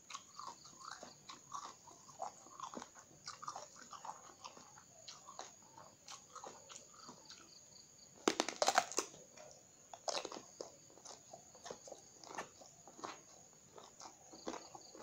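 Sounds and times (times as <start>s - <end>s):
biting crunches: 0.0s - 7.6s, 8.2s - 15.0s
chewing with crunches: 0.0s - 15.0s.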